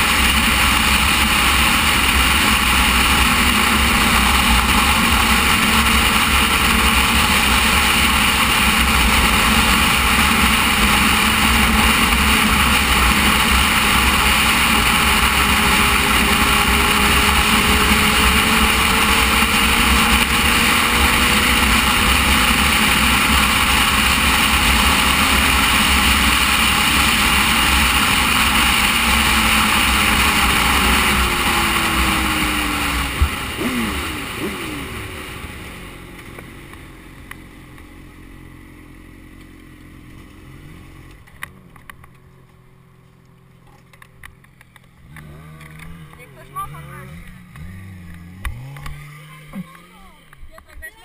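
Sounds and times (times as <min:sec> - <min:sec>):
motorcycle engine idling: 0:00.0 - 0:51.0
motorcycle engine running: 0:00.0 - 0:51.0.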